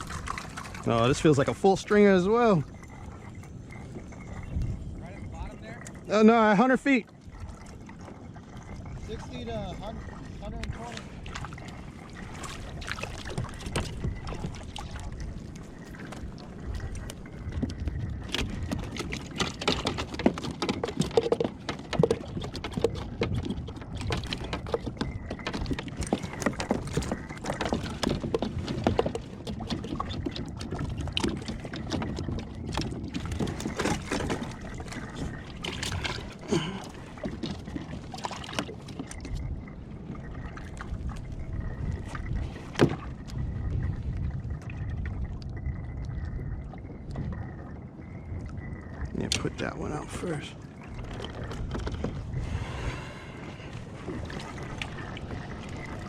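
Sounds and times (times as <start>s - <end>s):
water lapping against kayak hull: 0.0s - 56.0s.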